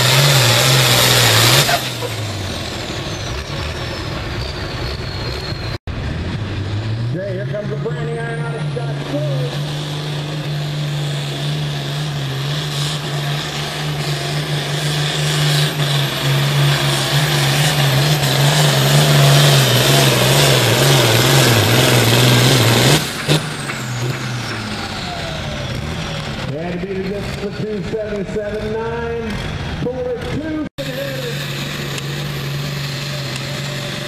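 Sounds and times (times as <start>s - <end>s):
diesel tractor engine at full throttle: 0.0s - 34.0s.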